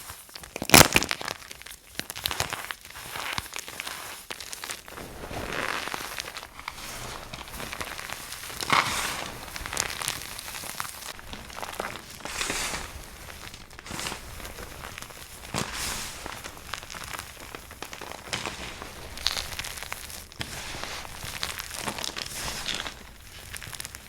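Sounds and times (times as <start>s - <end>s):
soap crunching and snapping: 0.3s - 24.0s.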